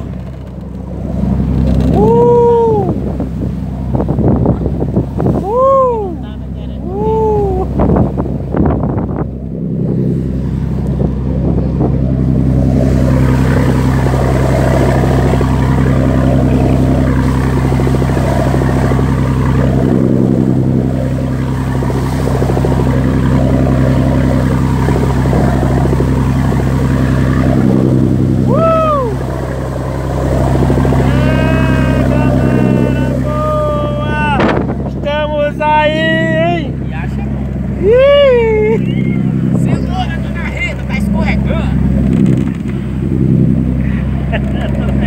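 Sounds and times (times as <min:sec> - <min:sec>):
boat engine humming: 0:00.0 - 0:45.0
water churning along hull: 0:00.0 - 0:45.0.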